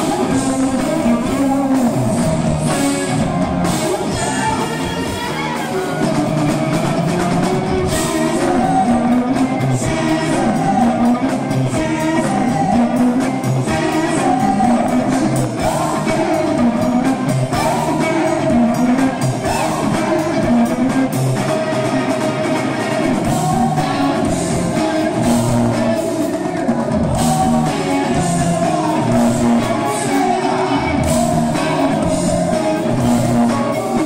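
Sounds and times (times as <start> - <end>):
man singing lead vocal: 0.0 - 34.0
rock band with electric guitar: 0.0 - 34.0.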